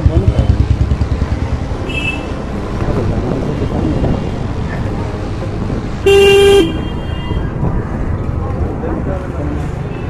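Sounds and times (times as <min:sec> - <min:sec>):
motorbike engine and road rumble: 0:00.0 - 0:10.0.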